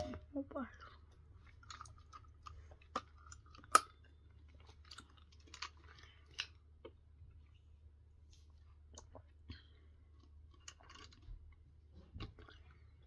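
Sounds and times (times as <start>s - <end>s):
chewing: 0.7s - 7.6s, 8.4s - 13.0s.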